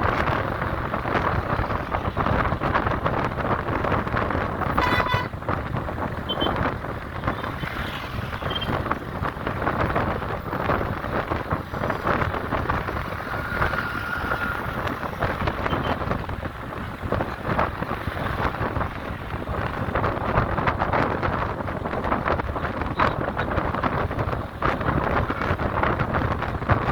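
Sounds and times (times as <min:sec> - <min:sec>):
road traffic: 0:00.0 - 0:26.9
wind buffeting microphone: 0:00.0 - 0:26.9.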